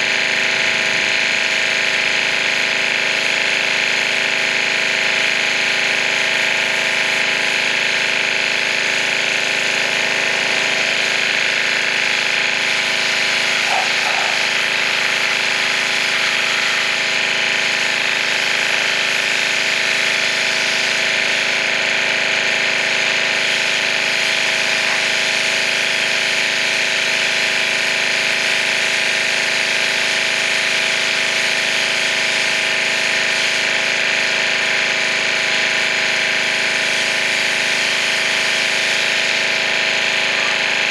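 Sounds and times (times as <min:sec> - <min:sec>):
pressure washer motor hum: 0:00.0 - 0:40.9.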